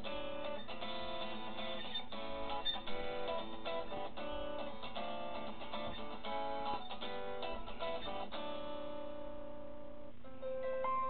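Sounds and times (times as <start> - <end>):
guitar ringtone melody: 0.0 - 11.0.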